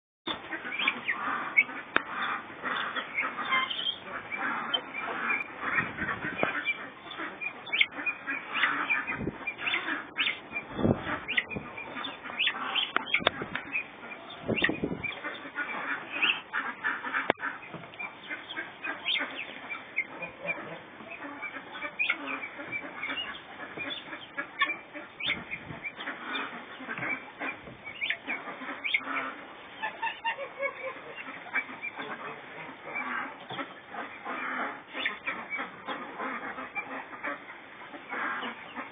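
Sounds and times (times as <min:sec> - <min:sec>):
guinea fowl calling: 0:00.3 - 0:38.9.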